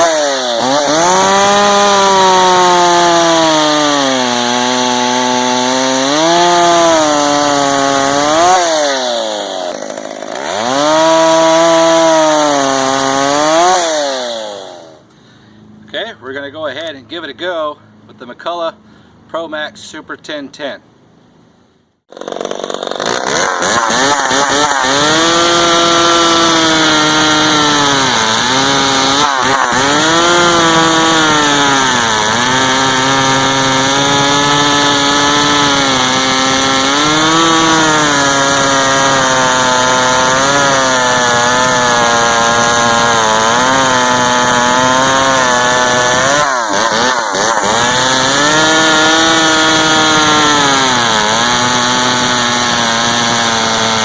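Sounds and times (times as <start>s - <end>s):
chainsaw cutting through wood: 0.0s - 15.1s, 22.1s - 54.0s.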